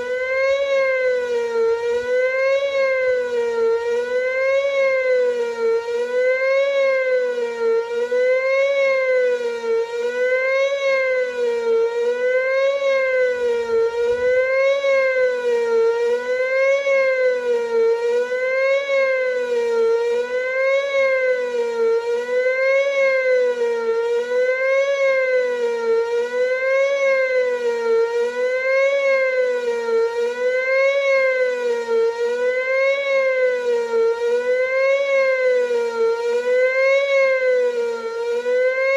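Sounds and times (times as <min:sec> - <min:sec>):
wavering warning siren: 0:00.0 - 0:38.9.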